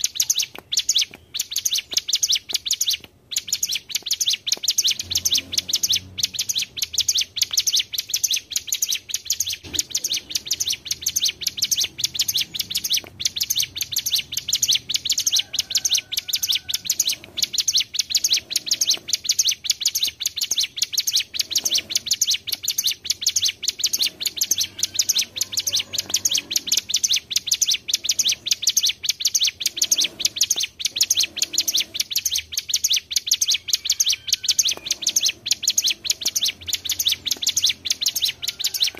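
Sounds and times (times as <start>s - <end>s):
bird trilling high sharp chirps: 0.0s - 38.9s.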